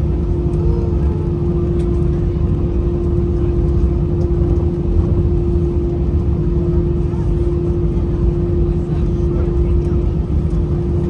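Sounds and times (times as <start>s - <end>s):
aircraft cabin rumble: 0.0s - 11.0s
constant hum: 0.0s - 11.0s.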